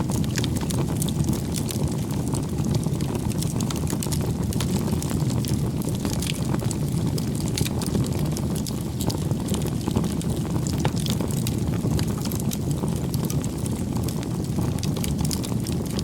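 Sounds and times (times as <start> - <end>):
bonfire flame rushing: 0.0 - 16.0
burning wood crackling and popping: 0.0 - 16.0.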